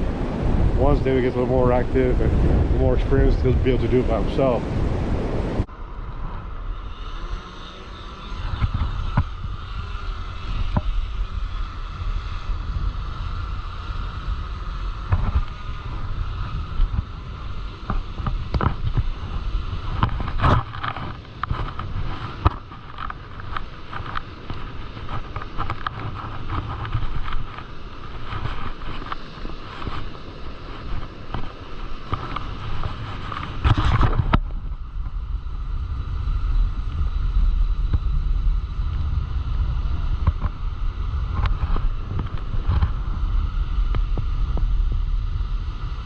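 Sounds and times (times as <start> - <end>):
drone propellers humming: 0.0 - 46.0
wind buffeting microphone: 0.0 - 46.0.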